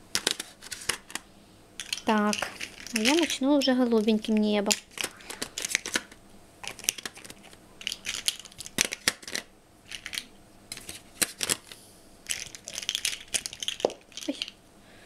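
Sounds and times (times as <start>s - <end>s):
plastic pieces clicking and rattling: 0.1s - 1.2s, 1.8s - 14.6s.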